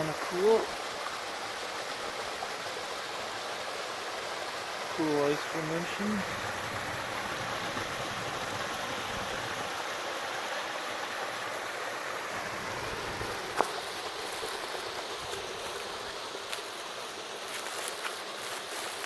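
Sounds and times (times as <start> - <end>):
water running in creek: 0.0 - 19.0.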